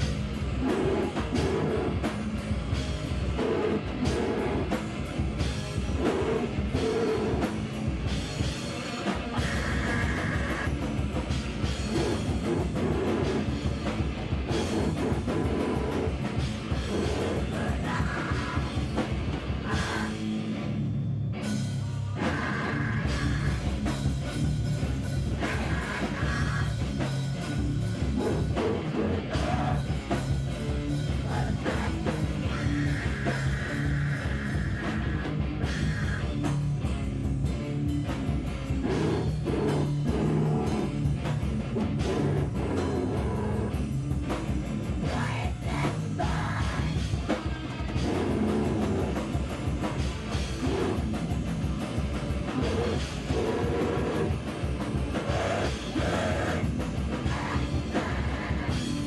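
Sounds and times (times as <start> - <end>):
drum kit pounding: 0.0 - 20.6, 21.6 - 59.0
rock band playing: 0.0 - 59.0.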